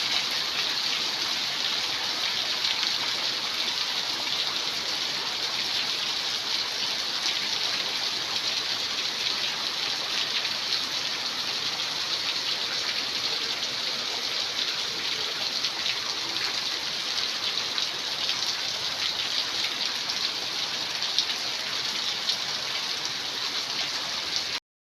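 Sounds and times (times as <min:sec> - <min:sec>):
heavy rain falling: 0:00.0 - 0:24.6.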